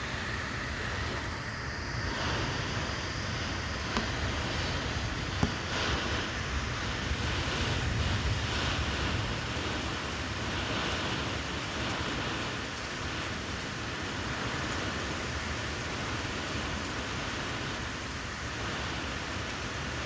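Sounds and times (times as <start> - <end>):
hurricane wind: 0.0 - 20.0
rain: 0.0 - 20.0.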